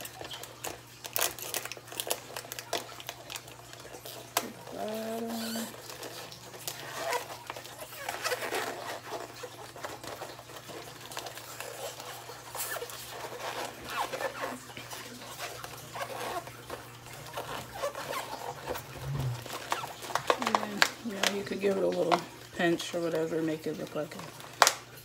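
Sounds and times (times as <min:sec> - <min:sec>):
chip bag crinkling: 0:00.0 - 0:25.0.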